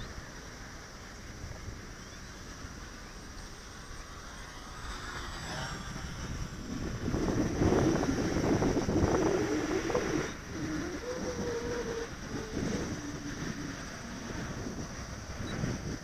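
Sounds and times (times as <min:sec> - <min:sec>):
model plane electric motors whining: 0:03.1 - 0:16.0.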